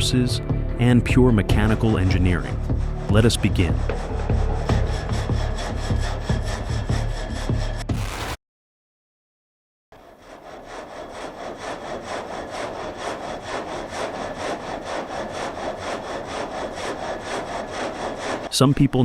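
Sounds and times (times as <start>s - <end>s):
frame saw rasping through timber: 0.8s - 8.2s, 9.9s - 19.0s.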